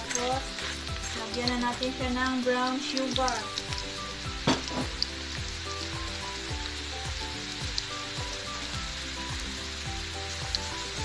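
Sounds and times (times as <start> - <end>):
background music with soft beat: 0.0 - 11.0
oil sizzling in a pan: 0.0 - 11.0.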